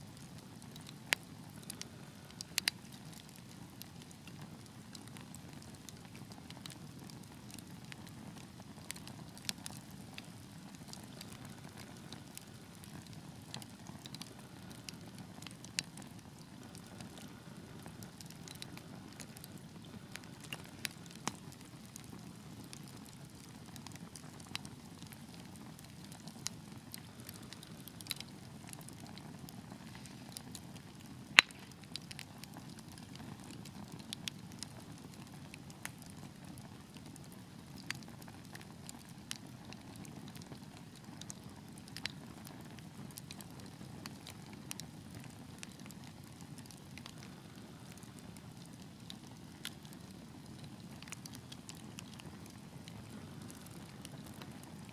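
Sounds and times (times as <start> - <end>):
low rustle of flames: 0.0 - 54.9
wood fire crackling and popping: 0.0 - 54.9.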